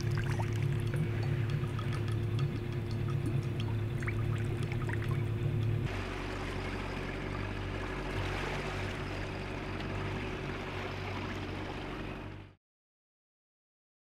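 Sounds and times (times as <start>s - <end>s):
water rushing: 0.0s - 12.5s
boat motor running: 0.0s - 12.6s.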